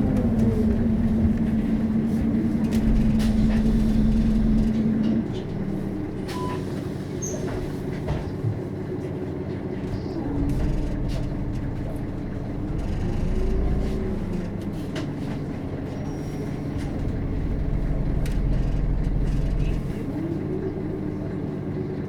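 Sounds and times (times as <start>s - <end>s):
bus body rattles and clicks: 0.0s - 22.0s
bus engine rumbling: 0.0s - 22.0s.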